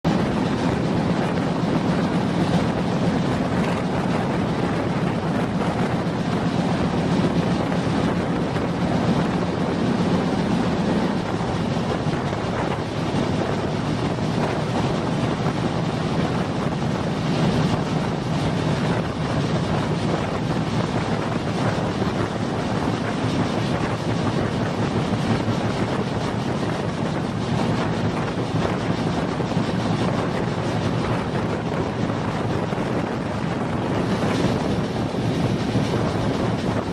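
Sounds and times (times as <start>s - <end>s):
passenger train rumbling: 0.0s - 36.9s
wind buffeting microphone: 0.0s - 36.9s.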